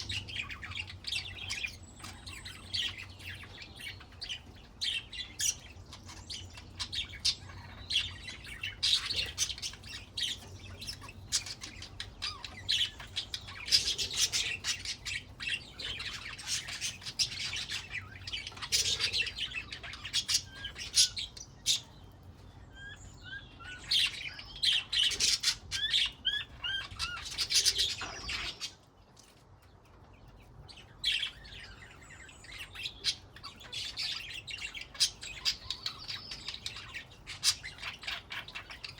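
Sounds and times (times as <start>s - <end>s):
budgerigars chattering and warbling: 0.0s - 29.0s, 30.3s - 38.9s.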